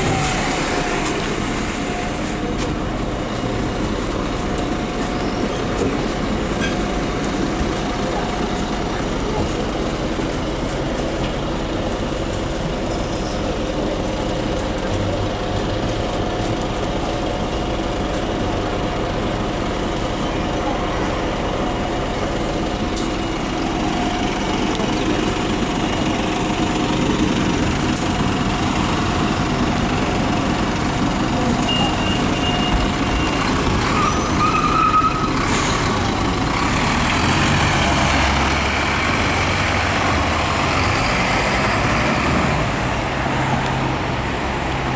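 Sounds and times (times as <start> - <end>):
bus pulling away: 0.0 - 44.9
diesel bus idling: 0.0 - 44.9.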